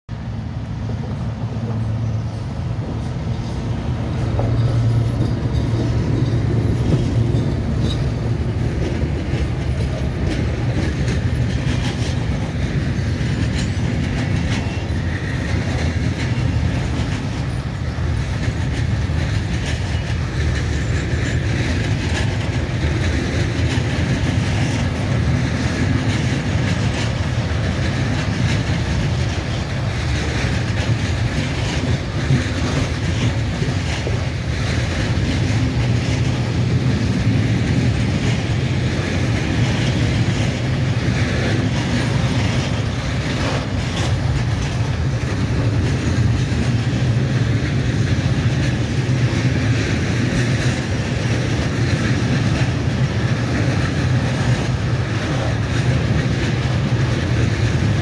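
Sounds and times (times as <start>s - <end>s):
freight train rumbling: 0.1s - 58.0s
wheels clicking over rails: 0.3s - 58.0s.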